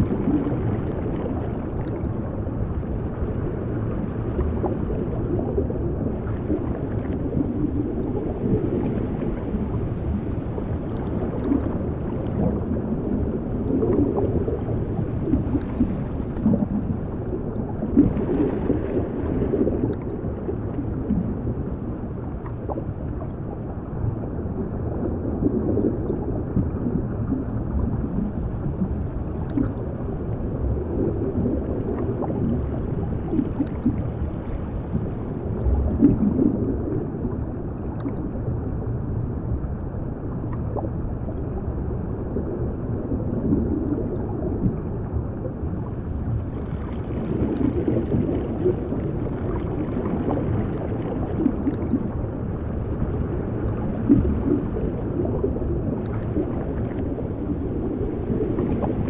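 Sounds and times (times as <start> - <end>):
muffled underwater bubbling: 0.0 - 59.0.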